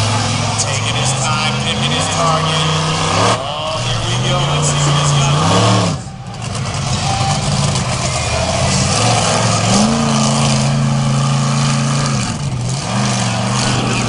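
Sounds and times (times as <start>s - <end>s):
monster truck engine running hard: 0.0s - 14.0s.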